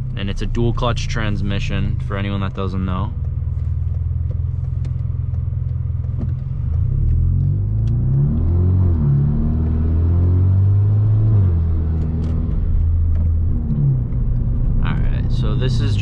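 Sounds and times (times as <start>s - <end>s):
car exhaust under acceleration: 0.0s - 16.0s
exhaust note changing with gears: 0.0s - 16.0s.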